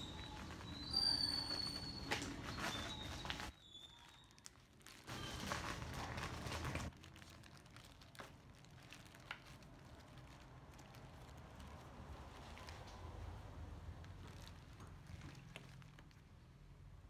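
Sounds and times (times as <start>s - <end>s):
plastic packaging crinkling: 0.0s - 16.4s
small clicks and rustles: 0.0s - 16.4s.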